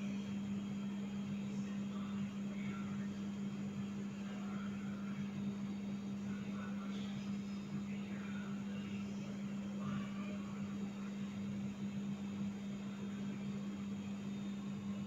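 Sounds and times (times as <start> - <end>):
electrical fan hum: 0.0 - 15.0.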